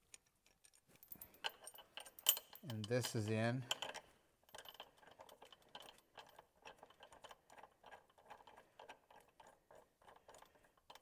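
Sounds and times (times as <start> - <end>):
steel chain links clinking: 0.2 - 11.0.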